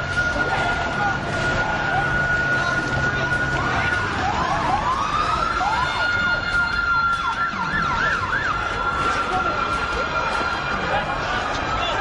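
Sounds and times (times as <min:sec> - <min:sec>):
siren wailing and yelping: 0:00.0 - 0:12.0
steady high siren tone: 0:00.0 - 0:12.0.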